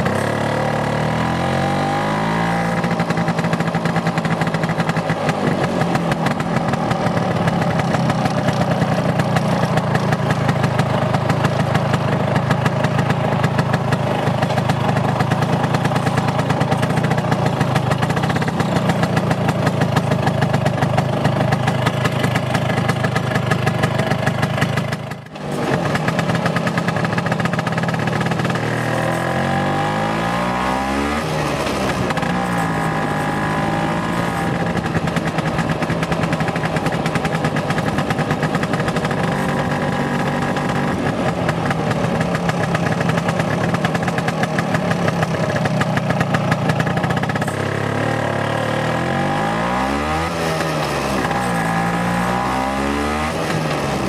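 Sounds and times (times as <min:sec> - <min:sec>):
scooter engine revving: 0:00.0 - 0:54.0.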